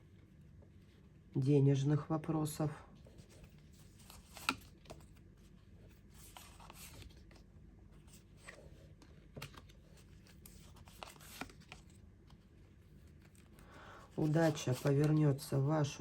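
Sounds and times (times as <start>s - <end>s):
cards rustling and tapping: 3.0s - 16.0s.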